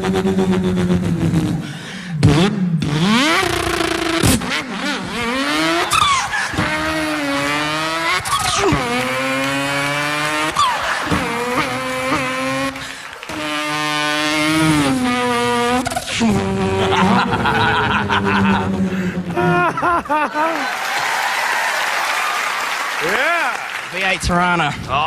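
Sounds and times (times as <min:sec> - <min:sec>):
man imitating race car engine: 0:00.0 - 0:20.7, 0:23.0 - 0:23.8.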